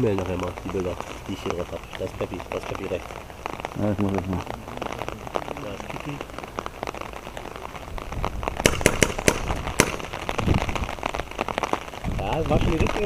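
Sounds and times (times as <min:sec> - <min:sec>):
sharp cracks: 0:00.0 - 0:13.0
steady rain: 0:00.0 - 0:13.0.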